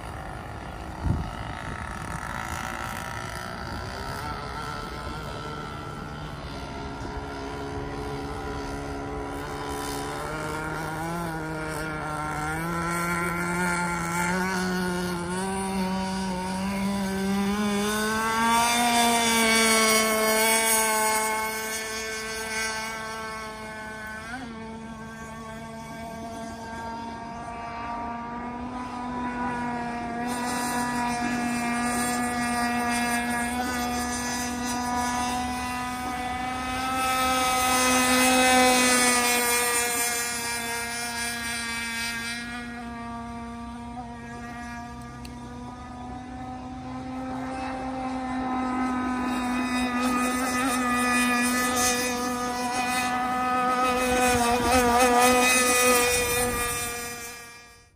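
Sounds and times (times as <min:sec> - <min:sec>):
model boat motor humming: 0:00.0 - 0:57.9.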